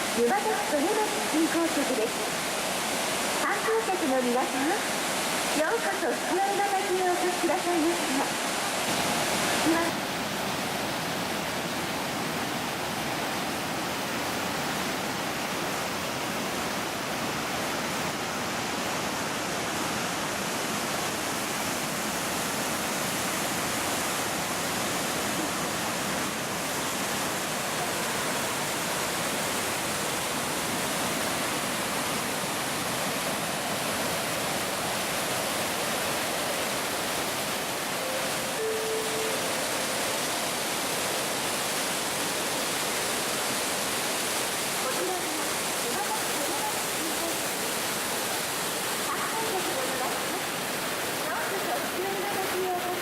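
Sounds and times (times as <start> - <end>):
large waterfall rushing: 0.0 - 53.0.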